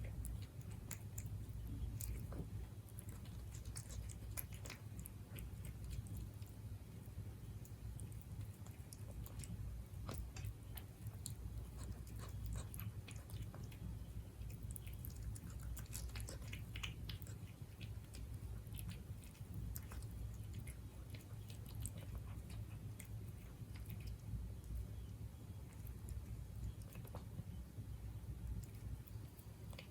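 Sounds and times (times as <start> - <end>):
cat chewing food crunchily: 0.0 - 29.9.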